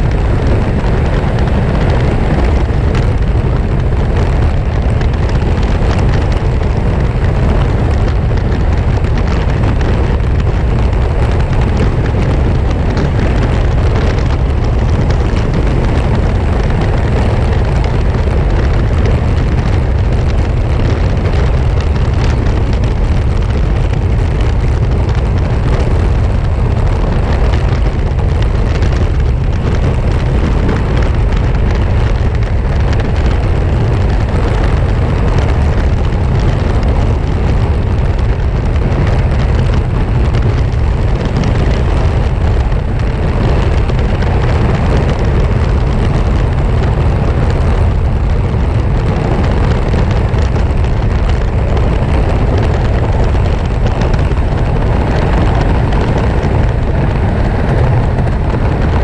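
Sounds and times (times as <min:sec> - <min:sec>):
low rumble of car driving: 0:00.0 - 0:59.0.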